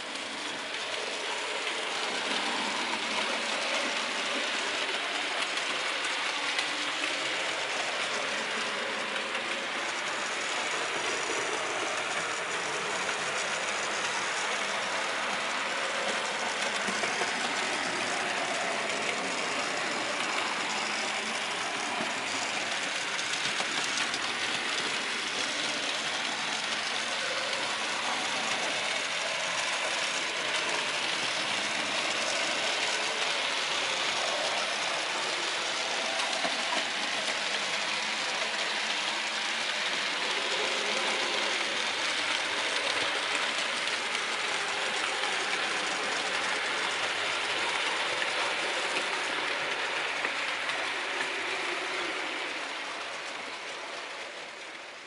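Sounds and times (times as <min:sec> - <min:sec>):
model train motor whirring: 0:00.0 - 0:55.0
wheels rolling on track: 0:00.0 - 0:55.0.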